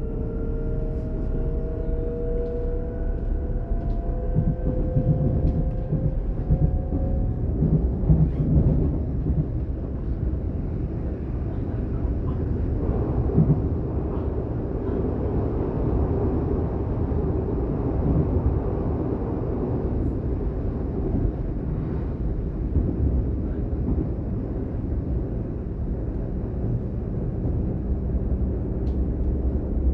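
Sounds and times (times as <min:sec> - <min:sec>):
train rolling rumble: 0:00.0 - 0:29.9
train traction whine: 0:00.0 - 0:29.9.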